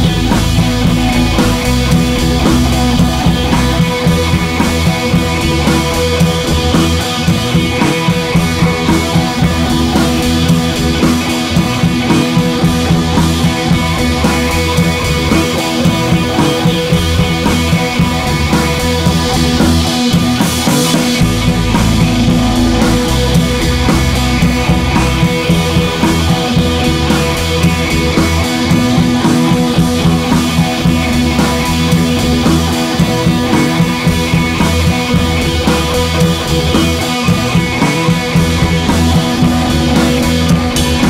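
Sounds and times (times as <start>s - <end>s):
rock music with guitar and drums: 0.0s - 41.0s.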